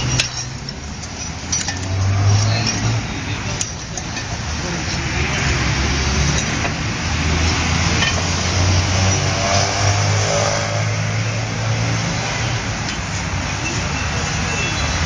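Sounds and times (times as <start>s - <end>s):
road traffic noise: 0.0s - 15.0s
vehicle engine droning: 0.0s - 15.0s.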